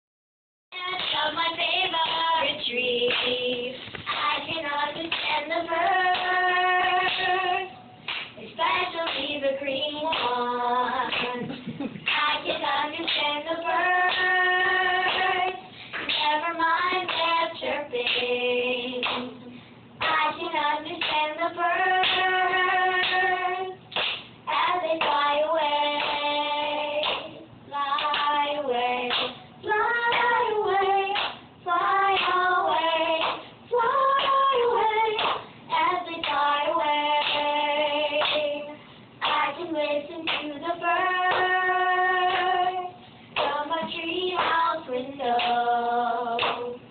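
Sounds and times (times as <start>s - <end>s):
girls singing: 0.8s - 46.9s.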